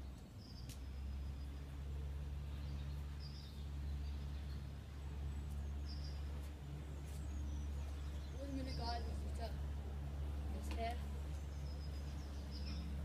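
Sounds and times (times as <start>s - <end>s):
birds chirping: 0.0s - 13.0s
low background rumble: 0.0s - 13.0s.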